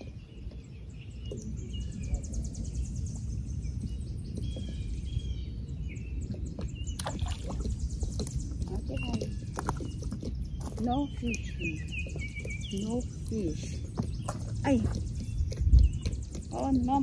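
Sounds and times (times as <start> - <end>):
birds chirping and trilling: 0.0 - 17.0
wind buffeting microphone: 0.0 - 17.0.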